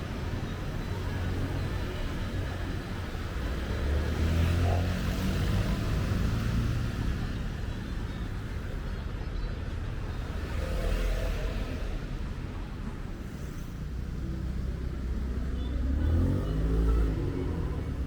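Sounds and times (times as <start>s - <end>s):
background traffic noise: 0.0s - 18.0s.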